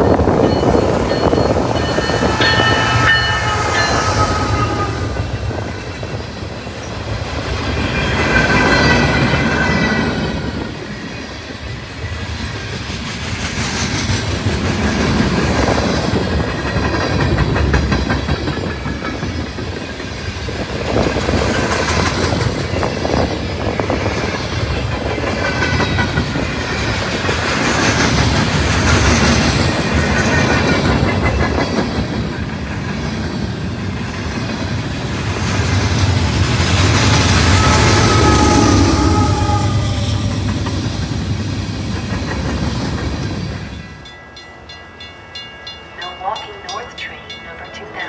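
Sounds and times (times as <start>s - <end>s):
train wheels clattering over rails: 0.0s - 39.5s, 40.1s - 44.1s
freight train cars rumbling: 0.0s - 48.0s.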